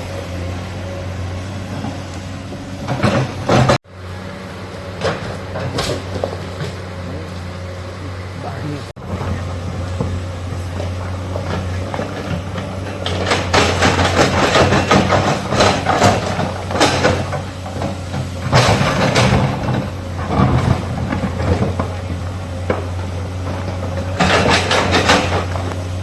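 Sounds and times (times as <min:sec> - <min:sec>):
excavator diesel engine: 0:00.0 - 0:26.0
scraping and clattering of digging: 0:00.0 - 0:26.0.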